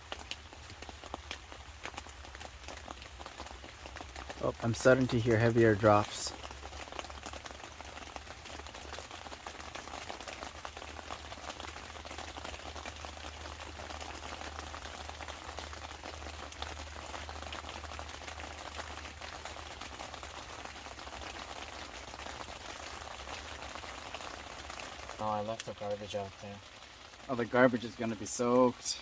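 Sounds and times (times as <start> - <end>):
rain pattering on tent fabric: 0.0 - 29.0.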